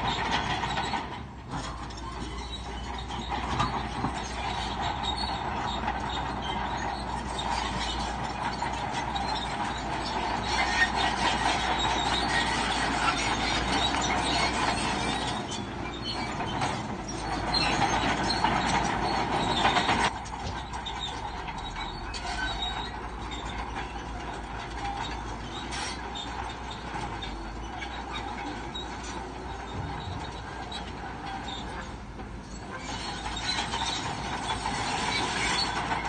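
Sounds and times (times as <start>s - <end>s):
bulldozer tracks clanking and squealing: 0.0s - 36.0s
diesel engine running: 0.0s - 36.0s.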